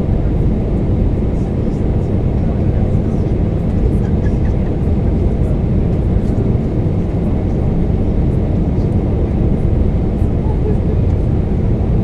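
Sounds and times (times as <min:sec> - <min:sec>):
airplane cabin noise: 0:00.0 - 0:12.0.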